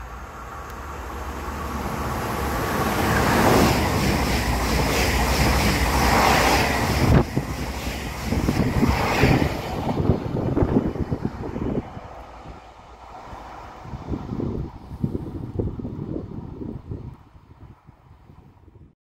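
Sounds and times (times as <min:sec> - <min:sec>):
electric train passing at speed: 0:00.0 - 0:18.9.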